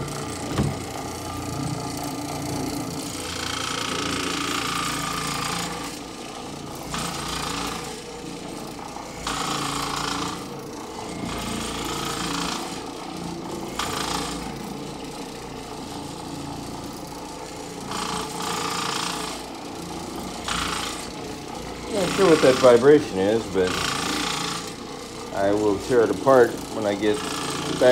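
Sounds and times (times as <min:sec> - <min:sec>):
floor machine rattling drone: 0:00.0 - 0:27.9.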